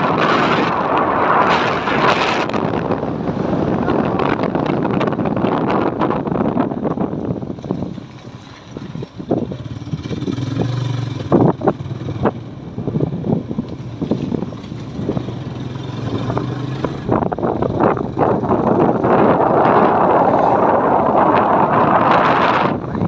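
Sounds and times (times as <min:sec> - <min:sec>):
motorcycle engine running: 0:02.5 - 0:22.6.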